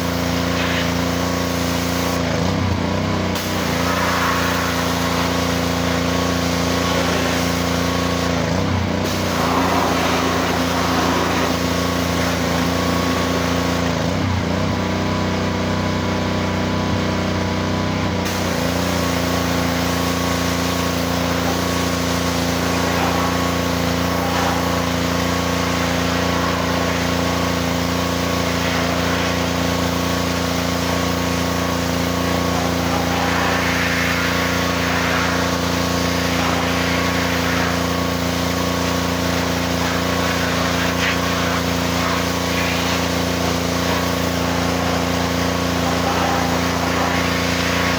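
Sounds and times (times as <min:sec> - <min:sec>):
high-pressure water spray hiss: 0:00.0 - 0:02.3, 0:03.3 - 0:14.1, 0:18.3 - 0:47.9
small engine running: 0:00.0 - 0:47.9.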